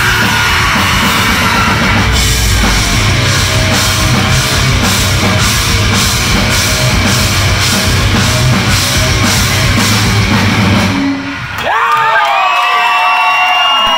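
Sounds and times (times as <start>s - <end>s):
steady cymbal beat: 0.0s - 11.4s
live rock band playing: 0.0s - 11.6s.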